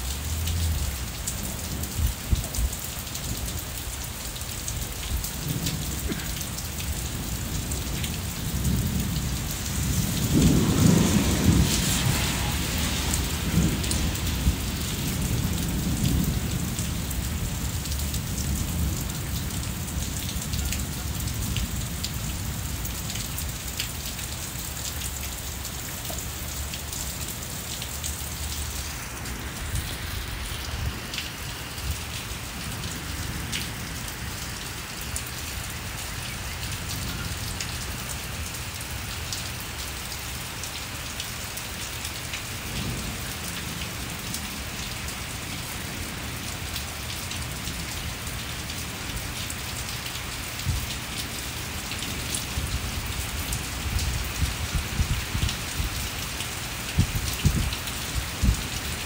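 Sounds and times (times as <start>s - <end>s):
rain falling on patio and plants: 0.0s - 59.0s.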